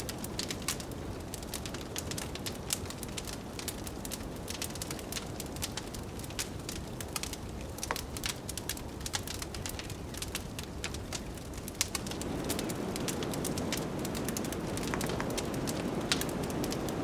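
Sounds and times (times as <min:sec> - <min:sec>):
low blizzard wind: 0:00.0 - 0:17.0
wood fire crackling and popping: 0:00.0 - 0:17.0.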